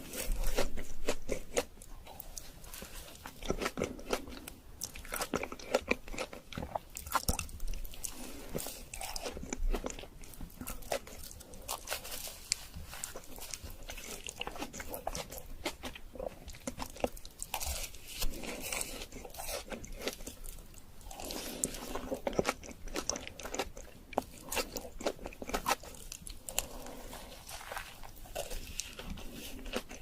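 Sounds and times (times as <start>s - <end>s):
person chewing donuts: 0.0s - 30.0s.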